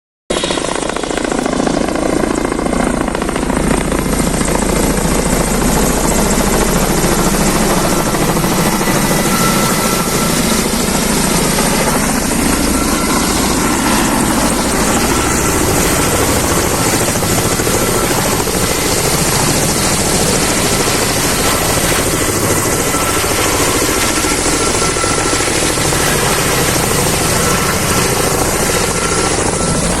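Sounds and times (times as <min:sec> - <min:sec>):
helicopter rotors and engines: 0:00.3 - 0:30.0
high turbine whine: 0:00.3 - 0:30.0.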